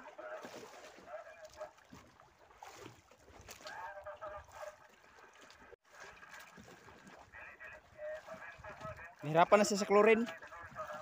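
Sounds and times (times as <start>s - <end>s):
sea water around boat: 0.0s - 11.0s
wind: 0.0s - 11.0s.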